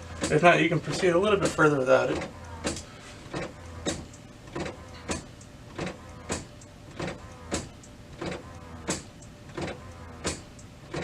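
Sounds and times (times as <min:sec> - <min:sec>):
printer clacking: 0:00.0 - 0:11.0
printer motor whirring: 0:00.0 - 0:11.0.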